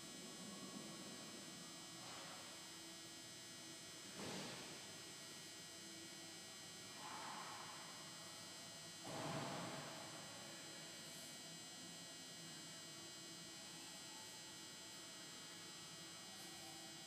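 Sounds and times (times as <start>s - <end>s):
electrical hum and whine: 0.0s - 17.0s.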